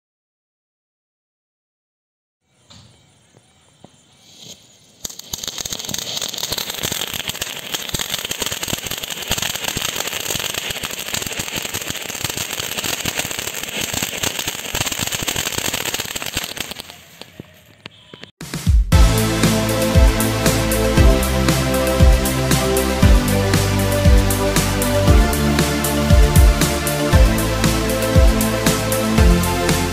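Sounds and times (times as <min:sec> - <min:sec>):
firework fountain hissing: 0:04.3 - 0:17.5, 0:19.0 - 0:29.9.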